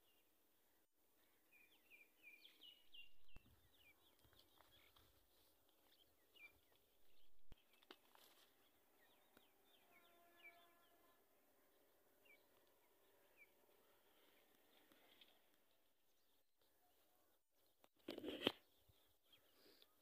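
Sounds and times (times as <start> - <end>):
small birds chirping: 1.1 - 20.0.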